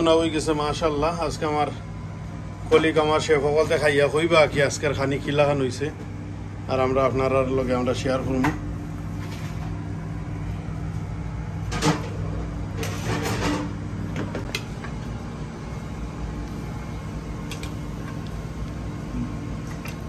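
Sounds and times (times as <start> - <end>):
kitchen equipment humming: 0.0 - 20.0.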